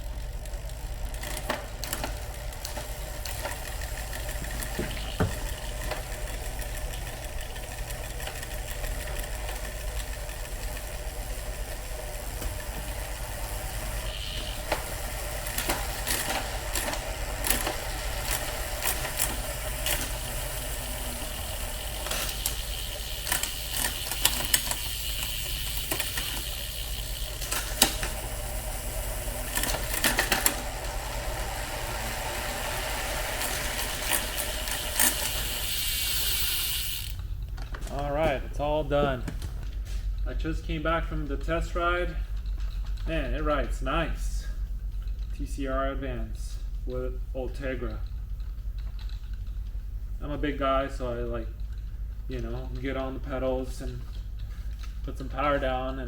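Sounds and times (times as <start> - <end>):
mechanical clicking and ticking: 0.0 - 56.0.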